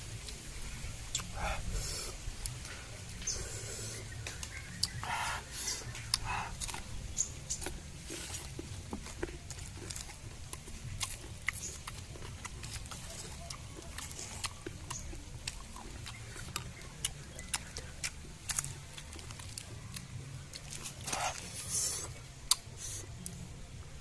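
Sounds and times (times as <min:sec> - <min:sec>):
person chewing fruit: 0:00.0 - 0:24.0.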